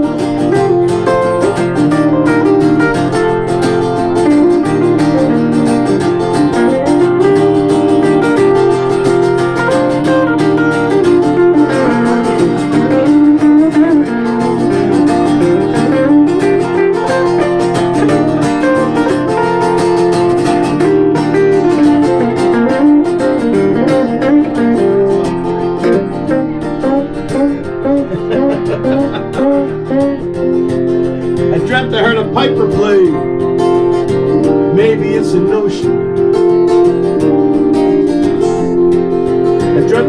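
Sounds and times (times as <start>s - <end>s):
acoustic guitar strumming chords: 0.0s - 40.0s
electric guitar lead melody: 0.0s - 40.0s.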